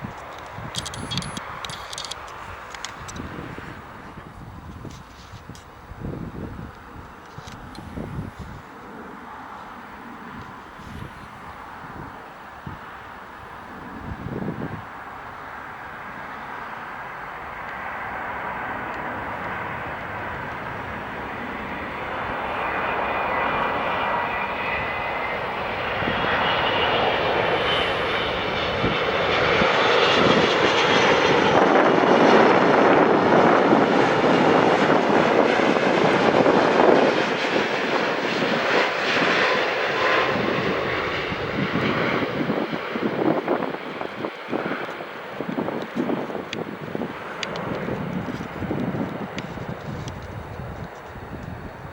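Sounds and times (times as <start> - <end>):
jet airliner passing by: 0.0 - 51.9.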